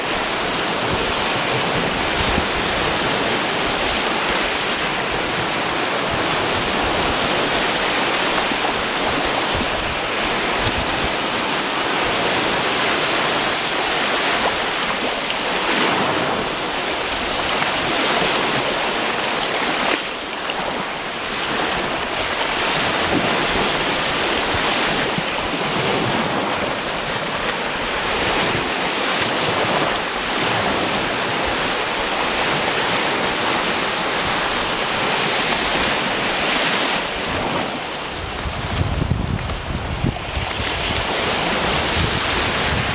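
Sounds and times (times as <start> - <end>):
waves breaking on shore: 0.0 - 42.9.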